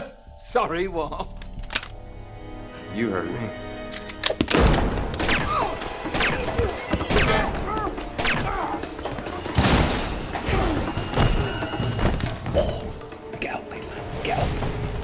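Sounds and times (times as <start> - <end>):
dramatic film score: 0.0 - 15.0.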